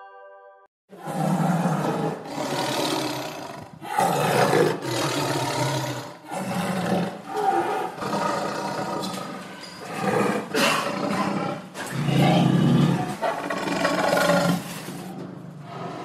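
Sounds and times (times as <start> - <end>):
tiger roaring: 0.9 - 16.0.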